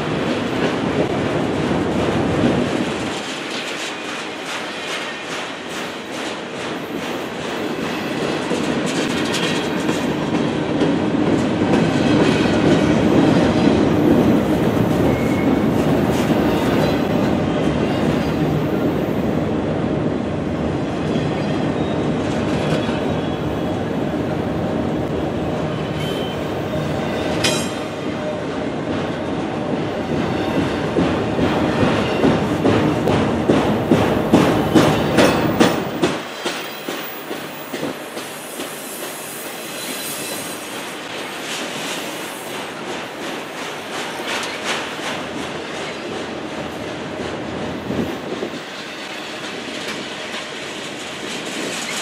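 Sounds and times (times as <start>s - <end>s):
clickety-clack over rail joints: 0.0s - 19.2s, 20.9s - 24.2s, 25.7s - 52.0s
train wheels rumbling on rail: 0.0s - 52.0s.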